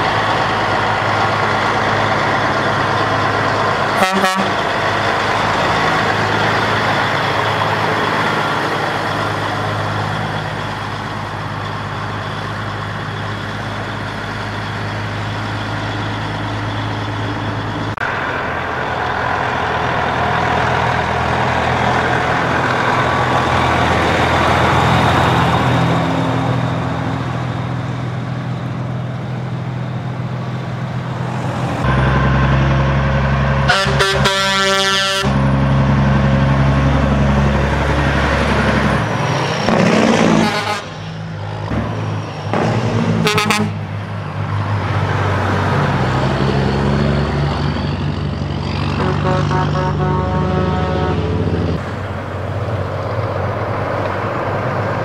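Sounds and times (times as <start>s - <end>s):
diesel truck engines running: 0.0s - 55.0s.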